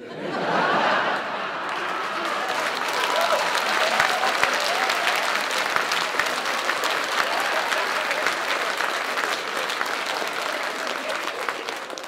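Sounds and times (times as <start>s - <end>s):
crowd applauding: 0.5s - 12.0s.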